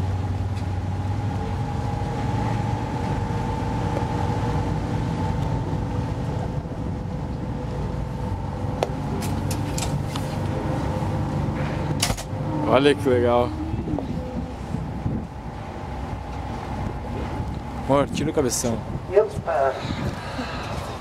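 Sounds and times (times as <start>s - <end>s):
boat engine running: 0.0s - 19.7s.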